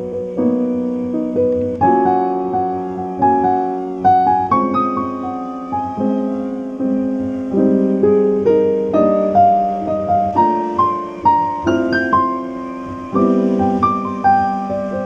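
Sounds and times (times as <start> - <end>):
solo piano melody: 0.0 - 15.0.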